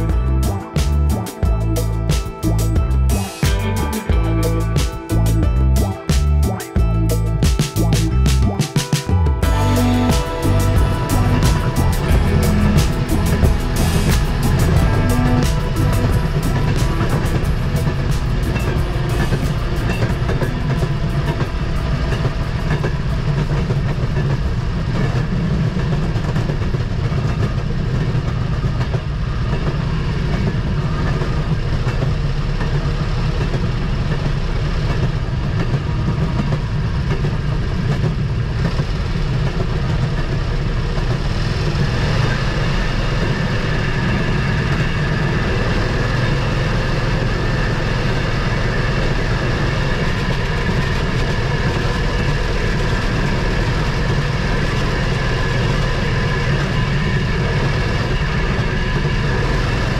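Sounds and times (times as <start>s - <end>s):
wheels on rails: 9.6s - 59.9s.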